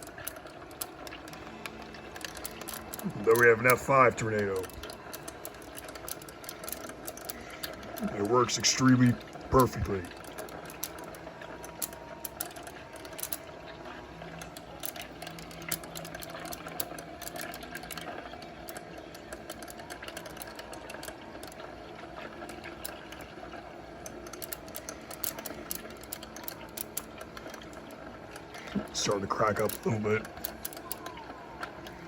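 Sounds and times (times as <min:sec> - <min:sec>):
clicks and rattles: 0:00.0 - 0:32.0.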